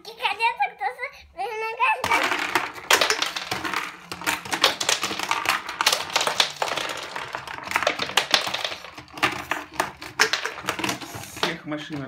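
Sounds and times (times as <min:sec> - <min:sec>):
plastic toy figurines clattering: 0:02.0 - 0:12.0.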